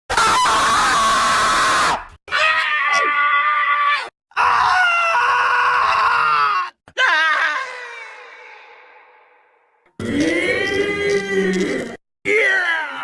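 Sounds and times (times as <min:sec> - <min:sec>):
angry cartoon character screams: 0:00.1 - 0:09.2, 0:10.0 - 0:13.0.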